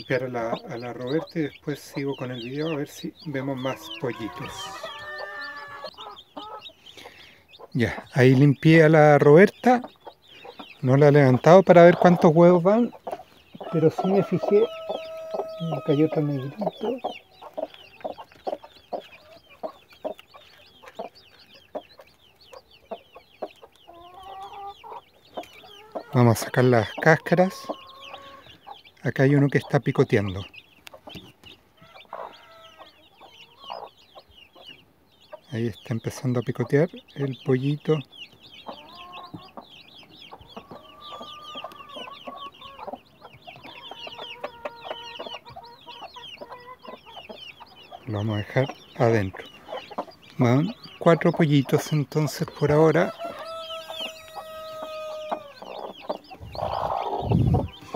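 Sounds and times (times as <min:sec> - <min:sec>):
hen clucking softly: 0:00.0 - 0:35.6, 0:37.7 - 0:57.9
chicks peeping: 0:00.0 - 0:57.9.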